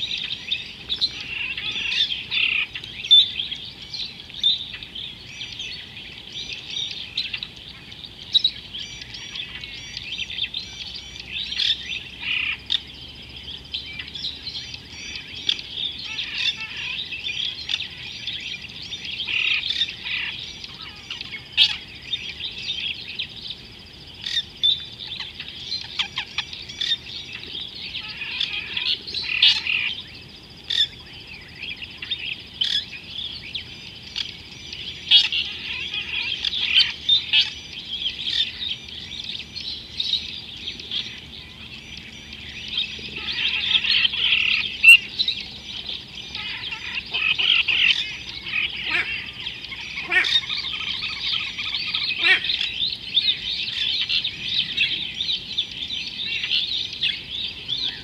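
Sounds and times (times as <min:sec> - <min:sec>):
loud individual bird calls: 0:00.0 - 0:23.6, 0:24.2 - 0:58.0
chorus of birds chirping: 0:00.0 - 0:58.0.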